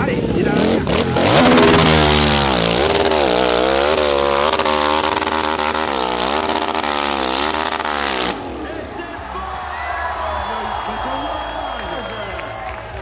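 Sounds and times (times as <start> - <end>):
dirt bike engine revving: 0.0 - 12.3.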